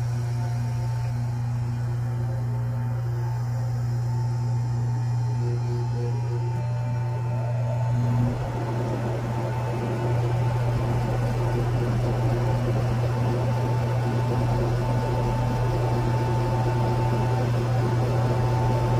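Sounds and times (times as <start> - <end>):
heat pump humming and rushing: 0.0 - 18.9.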